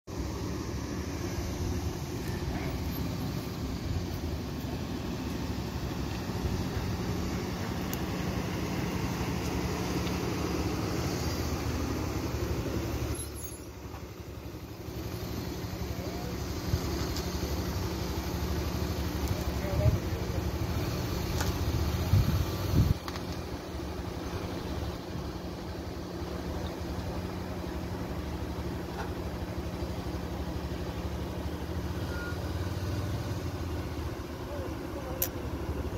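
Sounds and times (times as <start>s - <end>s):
vehicle engine running: 0.1s - 35.9s.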